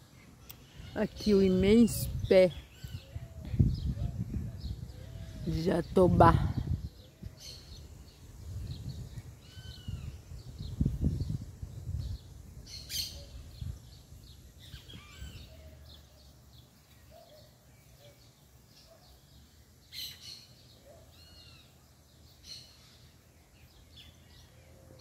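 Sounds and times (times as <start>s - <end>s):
songbirds singing and calling: 0.0s - 25.0s.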